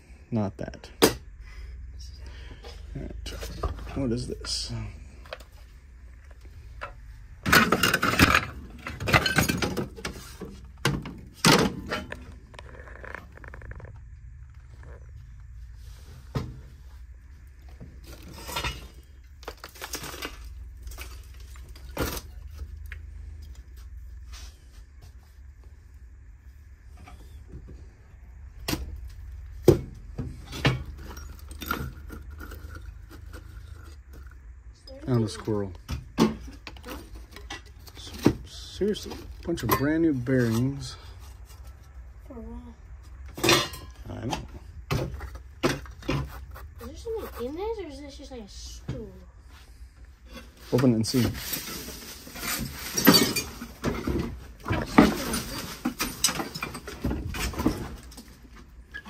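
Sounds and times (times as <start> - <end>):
objects clattering and rattling: 2.6 - 15.6, 16.2 - 24.5, 28.6 - 42.1, 43.0 - 47.6, 50.3 - 59.0.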